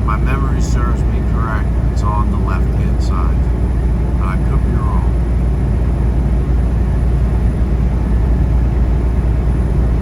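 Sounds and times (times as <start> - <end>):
diesel truck engine drone: 0.0 - 10.0.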